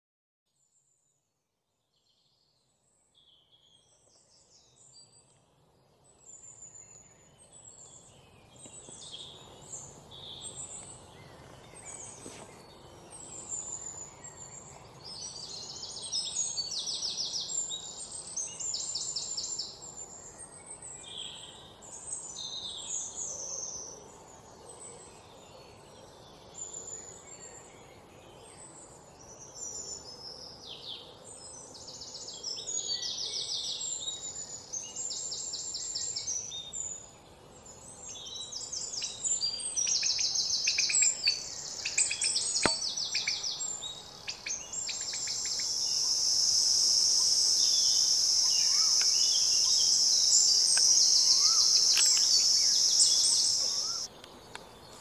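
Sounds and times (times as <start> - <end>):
small birds chirping: 2.0 - 55.0.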